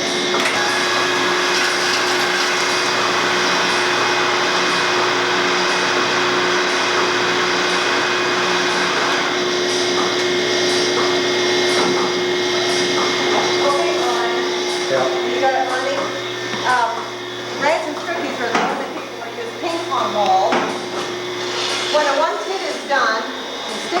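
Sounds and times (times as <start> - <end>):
milking machine droning: 0.0 - 24.0.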